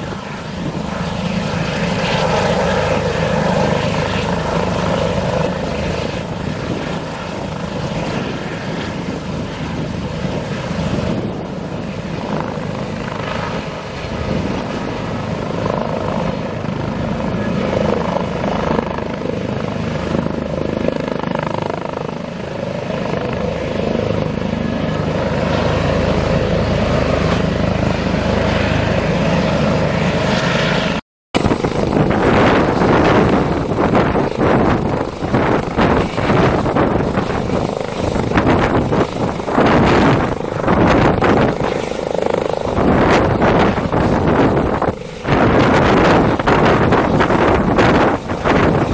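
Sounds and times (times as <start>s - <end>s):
helicopter rotor and turbine drone: 0.0s - 48.9s.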